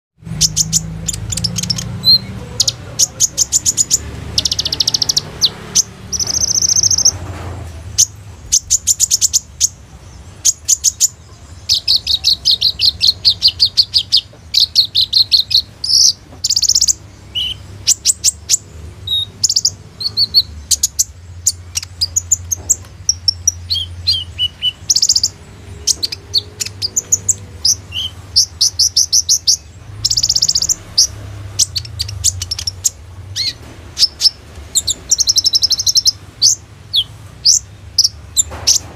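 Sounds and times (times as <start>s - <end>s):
sunbird singing: 0.2s - 7.2s, 7.8s - 38.9s.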